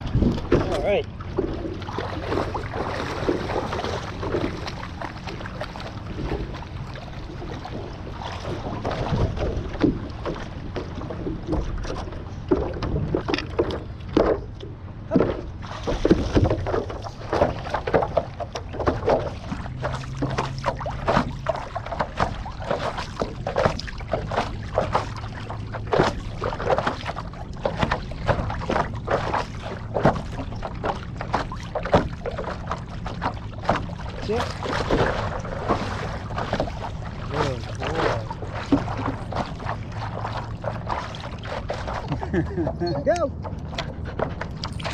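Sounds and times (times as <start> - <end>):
low steady hum: 0.0 - 44.9
paddle strokes through water: 0.0 - 44.9
water splashes and drips: 0.0 - 44.9.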